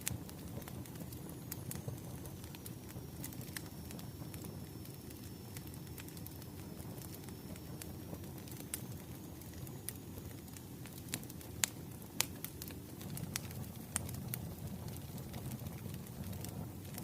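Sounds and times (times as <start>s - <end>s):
firewood crackling: 0.0s - 17.0s
low rumble of flames: 0.0s - 17.0s.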